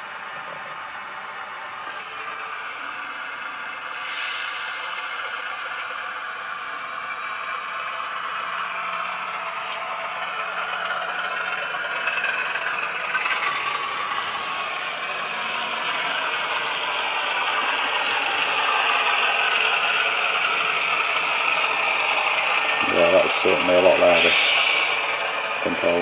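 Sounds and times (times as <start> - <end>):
diesel engine through small speaker: 0.0 - 26.0
model train rattling on track: 0.0 - 26.0.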